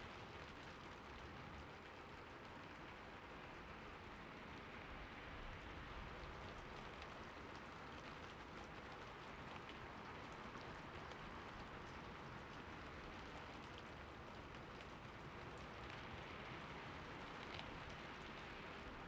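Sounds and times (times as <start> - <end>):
raindrops ticking close by: 0.0 - 19.0
steady rain hiss: 0.0 - 19.0.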